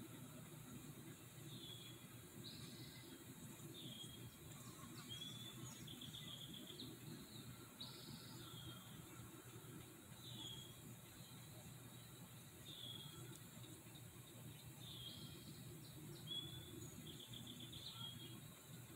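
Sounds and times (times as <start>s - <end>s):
small bird chirping: 1.5s - 9.1s, 9.8s - 18.5s.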